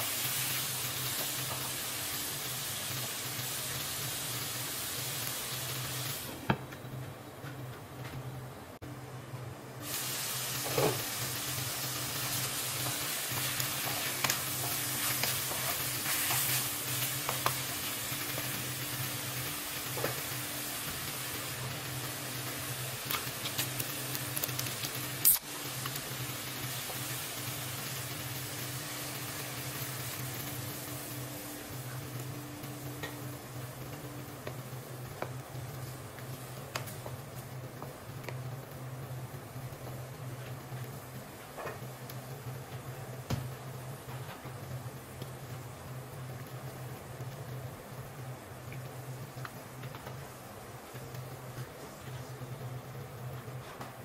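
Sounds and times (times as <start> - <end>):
chicken wings sizzling in a pan: 0.0 - 6.4, 9.8 - 52.7.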